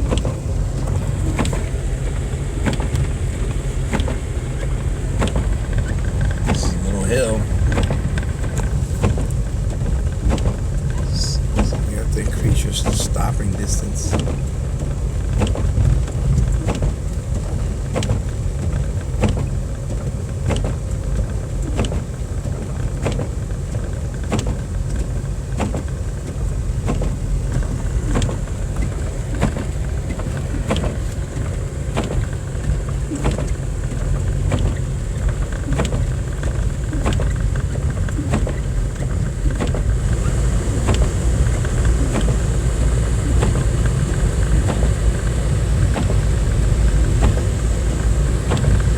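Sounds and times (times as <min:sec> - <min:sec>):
engine and tyre rumble: 0:00.0 - 0:48.9.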